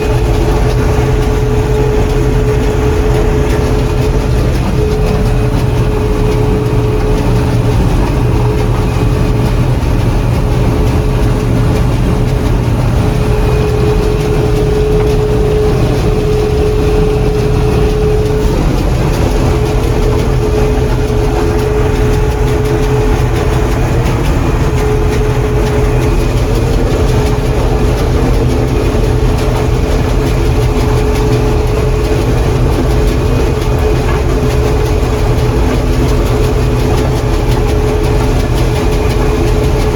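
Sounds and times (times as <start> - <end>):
combine engine droning: 0.0 - 39.9
constant whine: 0.0 - 39.9.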